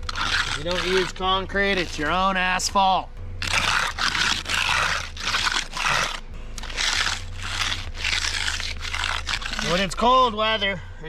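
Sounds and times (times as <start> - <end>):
float scraping wet concrete: 0.0 - 10.7.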